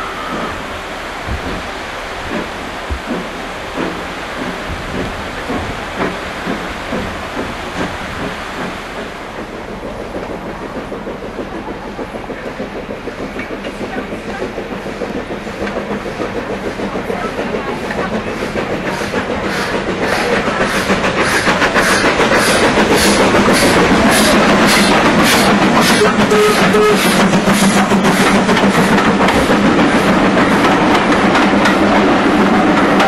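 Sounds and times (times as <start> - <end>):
steam locomotive exhaust beats: 0.0 - 33.0.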